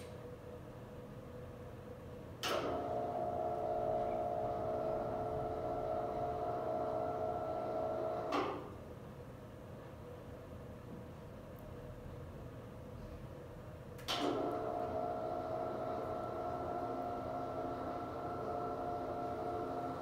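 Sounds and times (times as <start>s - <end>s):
projection screen motor hum: 0.0s - 12.2s, 13.9s - 20.0s.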